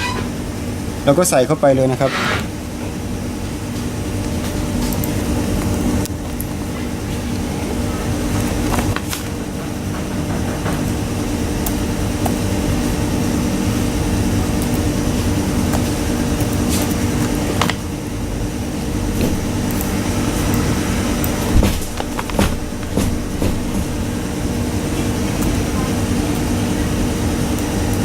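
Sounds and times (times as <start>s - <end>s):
electric fan motor humming: 0.0s - 28.0s.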